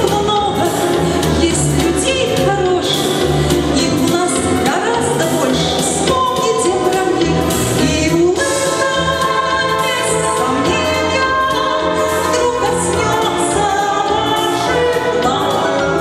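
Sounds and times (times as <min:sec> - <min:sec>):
amplified instrumental accompaniment: 0:00.0 - 0:16.0
woman singing into microphone: 0:00.0 - 0:16.0.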